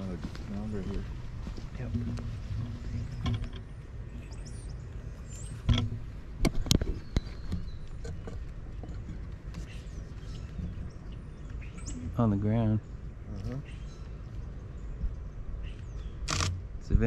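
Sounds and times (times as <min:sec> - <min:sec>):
small birds chirping: 0:00.0 - 0:17.0
wind rumble on microphone: 0:00.0 - 0:17.0.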